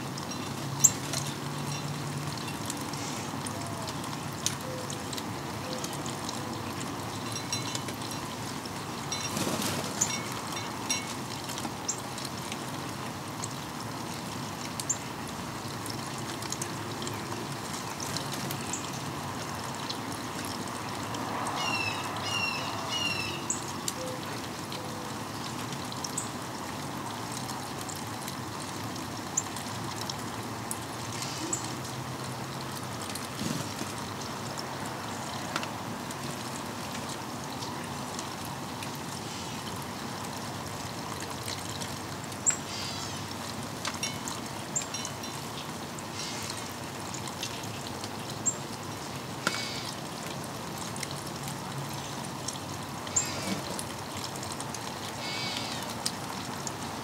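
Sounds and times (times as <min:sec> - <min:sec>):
rain falling: 0:00.0 - 0:57.0
water trickling: 0:00.0 - 0:57.0.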